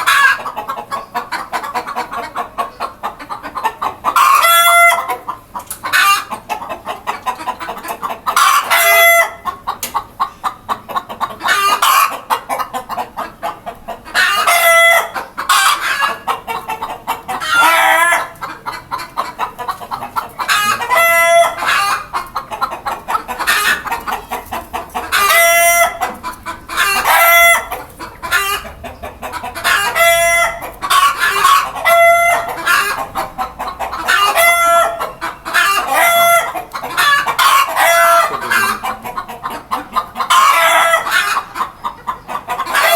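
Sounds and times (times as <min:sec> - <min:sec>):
roosters crowing: 0:00.0 - 0:09.6, 0:11.1 - 0:42.9
hens clucking: 0:00.0 - 0:42.9.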